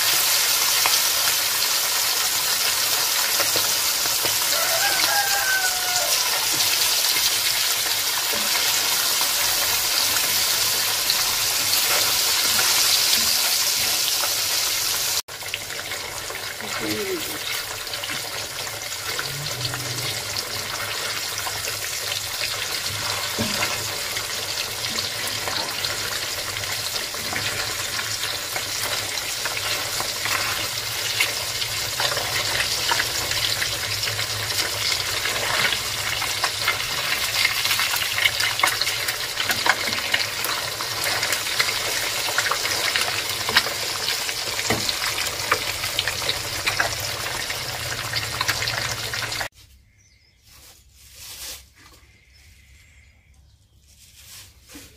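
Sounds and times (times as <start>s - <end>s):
fish sizzling in hot oil: 0.0s - 49.5s.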